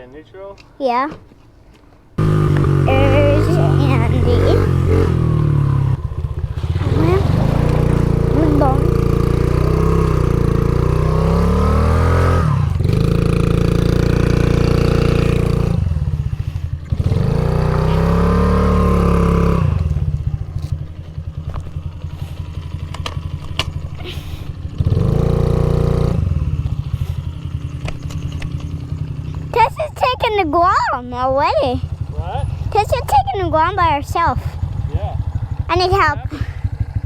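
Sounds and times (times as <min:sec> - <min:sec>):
dirt bike engine revving: 0:02.2 - 0:37.0.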